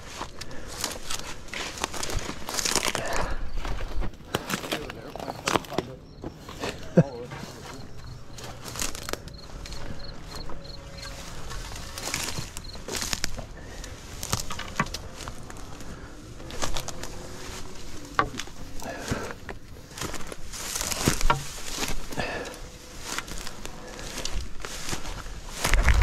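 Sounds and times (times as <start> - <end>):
boots crunching on rocks and gravel: 0.0 - 26.0.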